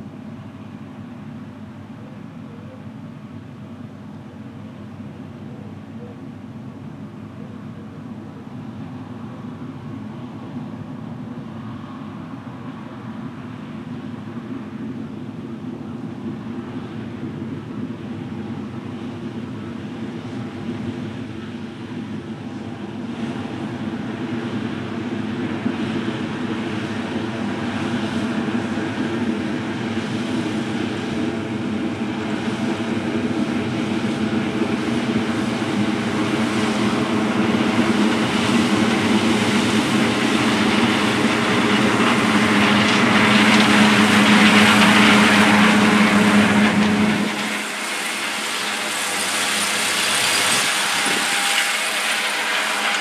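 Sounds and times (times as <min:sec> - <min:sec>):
combine harvester engine and threshing: 0:00.0 - 0:53.0.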